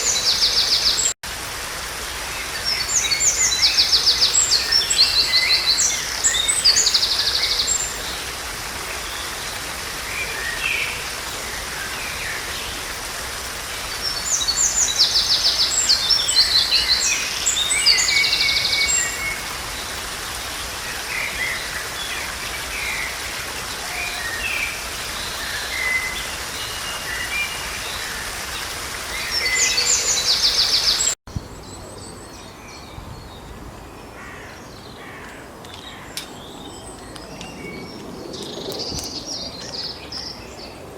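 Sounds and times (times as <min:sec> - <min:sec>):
songbirds trilling: 0:02.2 - 0:40.9.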